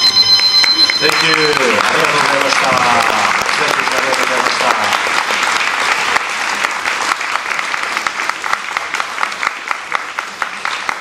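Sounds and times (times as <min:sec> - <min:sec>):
audience applauding: 0:00.2 - 0:11.0.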